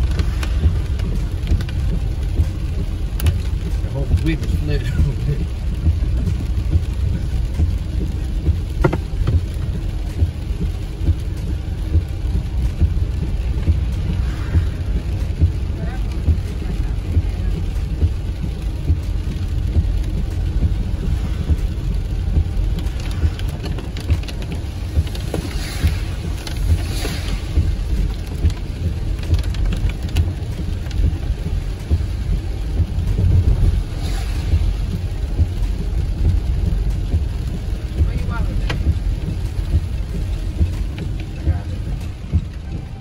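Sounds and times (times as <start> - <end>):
road and wind noise in car: 0.0 - 43.0.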